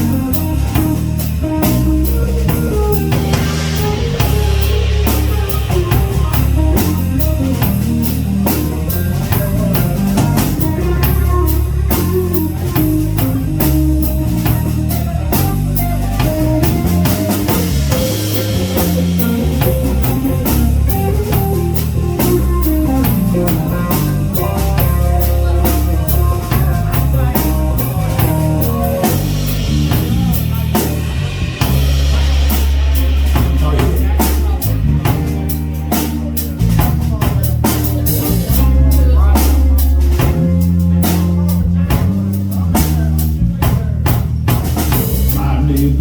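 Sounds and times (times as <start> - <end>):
guitar melodic line: 0.0 - 43.7
bass: 0.0 - 46.0
drum kit: 0.0 - 46.0.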